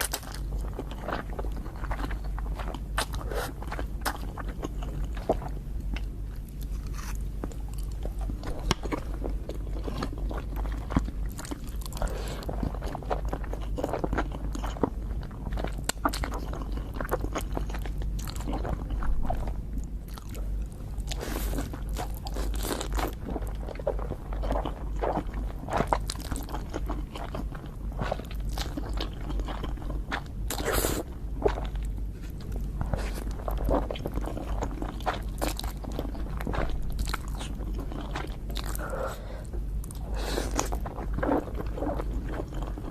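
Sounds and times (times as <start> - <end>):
faint low hum: 0.0 - 42.9
person chewing crunchy food: 0.0 - 42.9.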